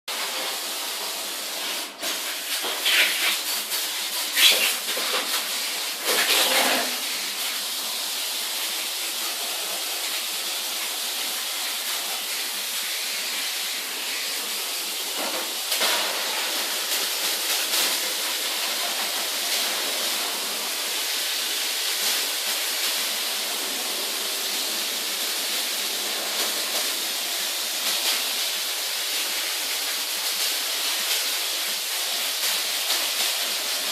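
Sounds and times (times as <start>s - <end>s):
high-pressure water spray hissing: 0.1s - 33.9s.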